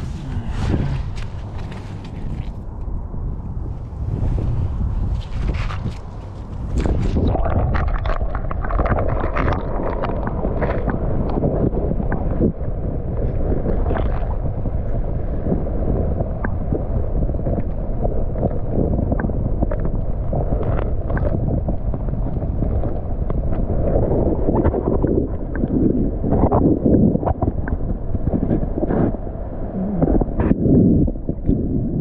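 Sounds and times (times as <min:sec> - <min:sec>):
muffled underwater rumble: 0:00.0 - 0:32.0.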